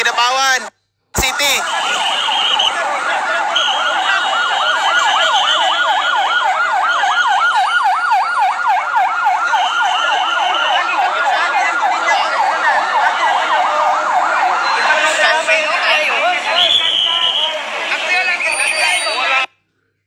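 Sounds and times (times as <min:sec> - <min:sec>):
siren yelping: 0:01.5 - 0:19.4.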